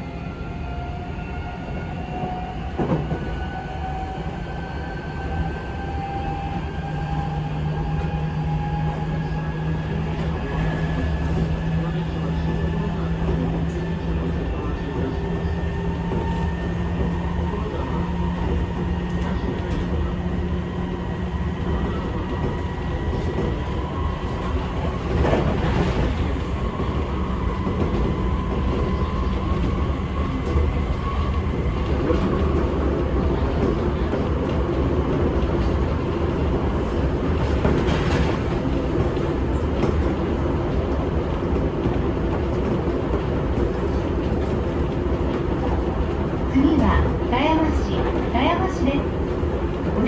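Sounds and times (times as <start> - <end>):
train wheels rumbling on rail: 0.0 - 50.0
train clattering: 9.2 - 50.0.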